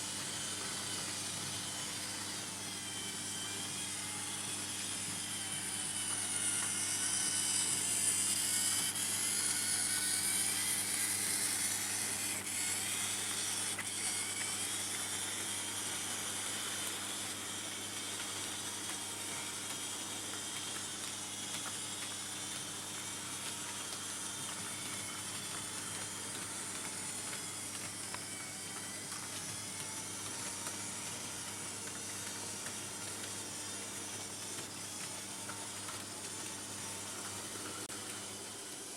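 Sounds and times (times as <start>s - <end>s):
model train motors whining: 0.0s - 38.9s.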